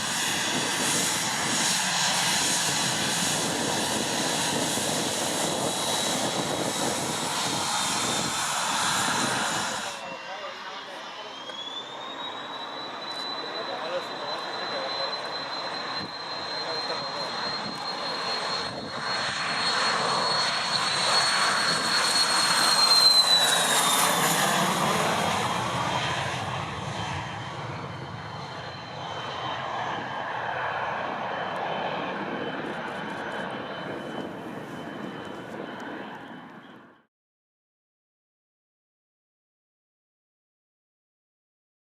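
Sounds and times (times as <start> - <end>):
jet engines whining: 0.0 - 37.0.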